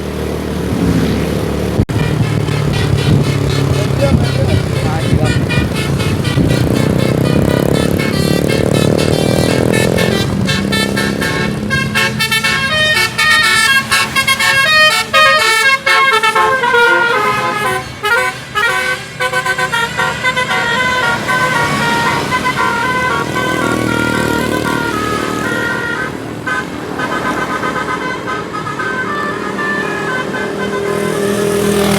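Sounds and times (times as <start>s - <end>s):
bus engine running: 0.0s - 31.9s
musical air horn tune: 1.9s - 31.9s.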